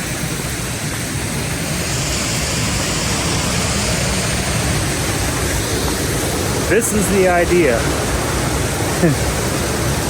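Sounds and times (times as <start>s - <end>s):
waterfall pouring into pool: 0.6s - 10.0s.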